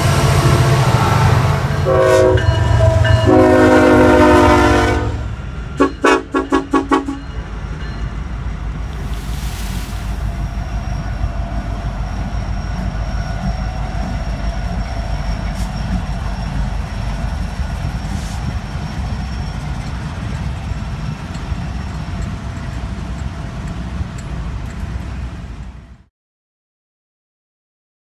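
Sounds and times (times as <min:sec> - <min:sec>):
diesel locomotive engines: 0:00.0 - 0:26.1
train wheels rumbling on rails: 0:00.0 - 0:26.1.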